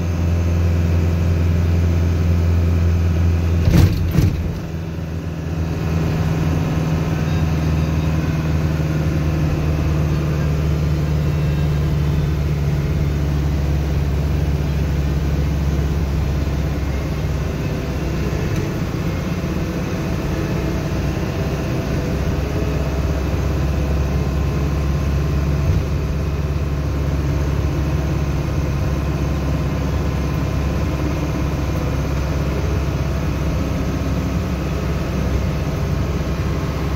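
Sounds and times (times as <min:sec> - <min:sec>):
vehicle engine drone from inside: 0:00.0 - 0:36.9.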